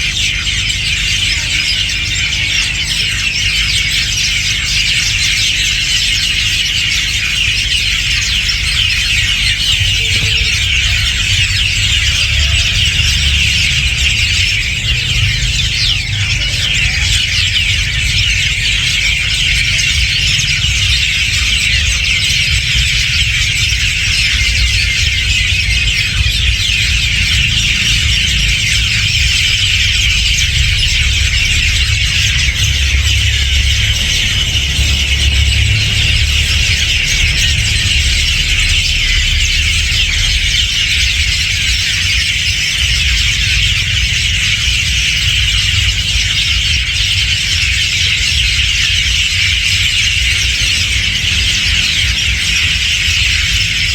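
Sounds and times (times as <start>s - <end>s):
flock of birds chattering: 0.0s - 53.9s
low steady rumble: 0.0s - 53.9s.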